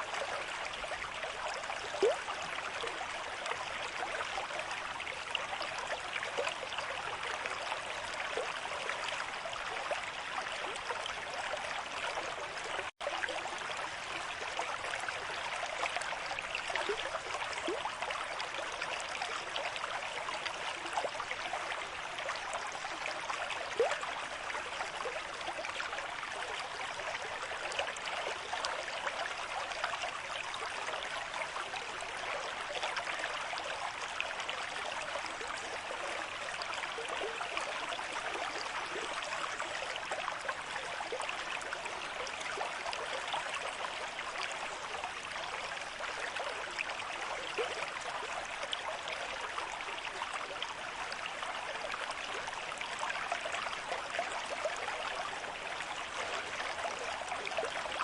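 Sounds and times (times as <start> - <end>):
water gurgles and splashes: 0.0 - 58.0.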